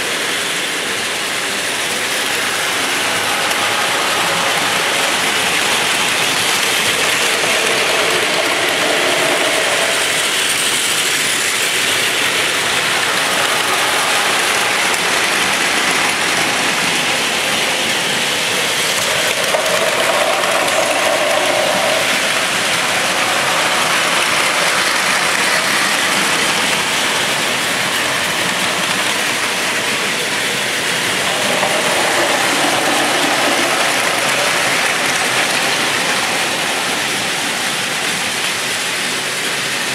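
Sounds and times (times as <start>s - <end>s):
toy trains whirring on plastic track: 0.0s - 39.9s.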